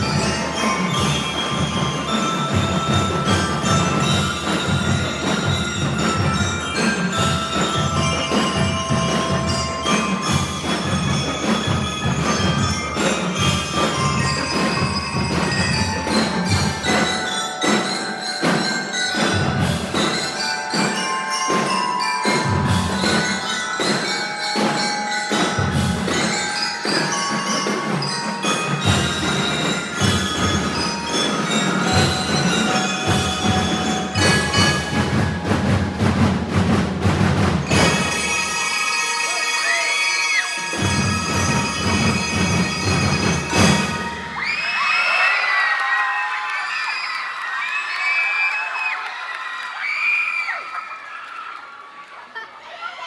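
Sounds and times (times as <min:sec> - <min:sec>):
bell lyres playing melody: 0:00.0 - 0:45.1
marching drums: 0:00.0 - 0:45.6.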